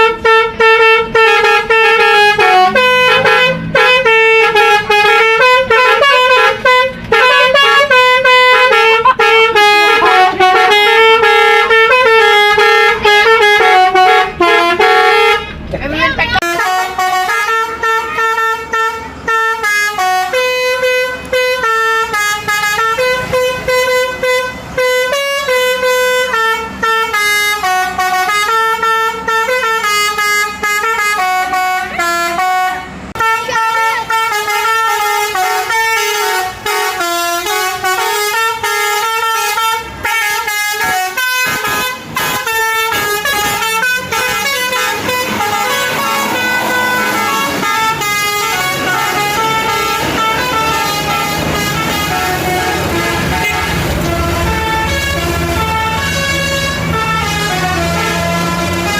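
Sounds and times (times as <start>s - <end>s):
multi-tone bus horn melody: 0.0s - 58.9s.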